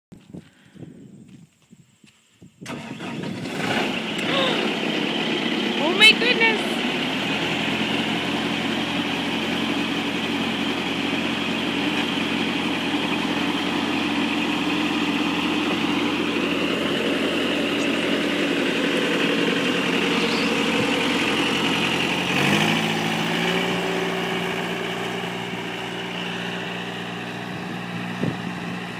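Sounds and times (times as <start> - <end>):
loader engine running: 2.6 - 28.9.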